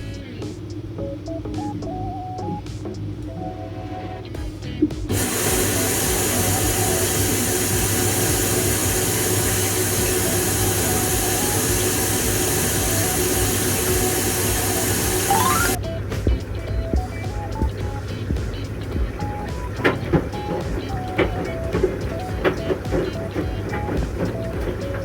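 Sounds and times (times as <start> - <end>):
background music: 0.0 - 25.0
washer-dryer running: 0.0 - 25.0.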